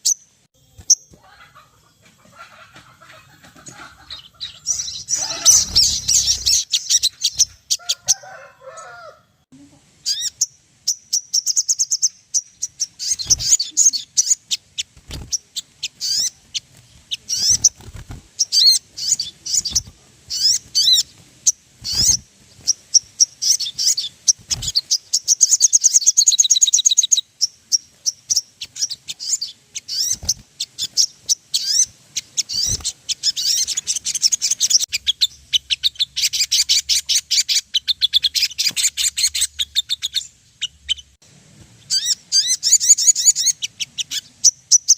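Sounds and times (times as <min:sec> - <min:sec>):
sunbird singing chirps and trills: 0:00.0 - 0:01.8, 0:03.8 - 0:09.0, 0:10.0 - 0:41.2, 0:41.8 - 0:44.9.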